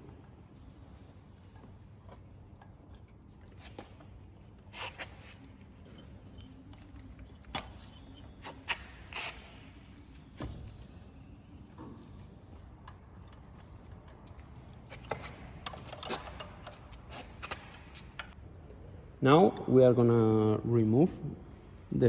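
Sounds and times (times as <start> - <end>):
hand tools clicking and tapping: 0.0 - 18.4.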